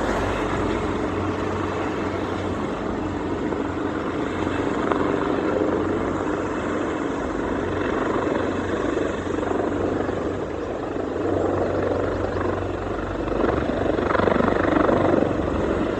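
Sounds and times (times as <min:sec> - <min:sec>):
helicopter rotors and turbine engines: 0:00.0 - 0:15.9.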